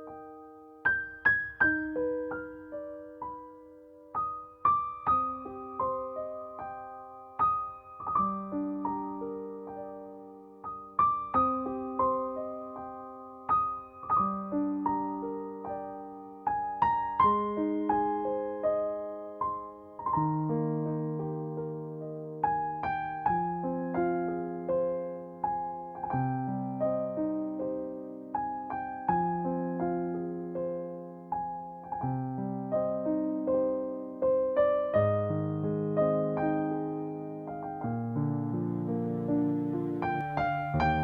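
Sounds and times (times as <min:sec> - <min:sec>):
slow solo piano music: 0:00.0 - 0:41.0.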